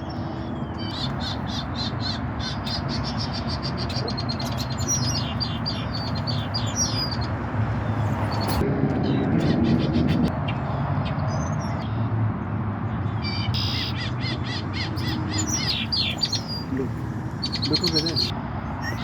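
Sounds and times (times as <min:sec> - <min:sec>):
small birds chirping: 0:00.0 - 0:12.1, 0:12.9 - 0:19.0.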